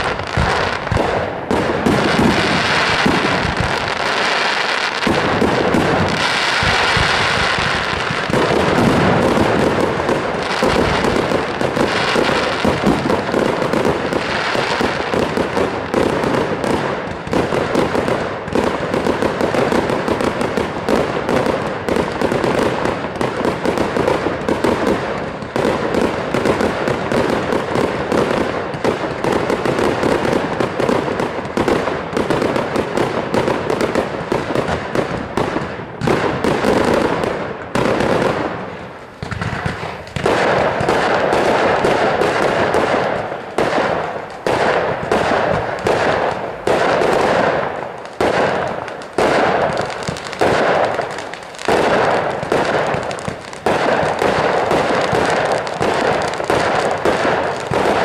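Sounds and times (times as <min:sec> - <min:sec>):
fireworks launch thumps and bursts: 0:00.0 - 0:04.2, 0:04.9 - 0:58.0.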